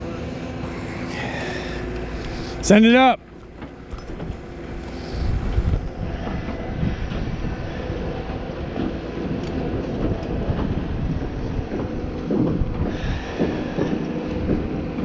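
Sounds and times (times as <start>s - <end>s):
engine running: 0.0s - 15.0s
wind buffeting microphone: 1.3s - 15.0s.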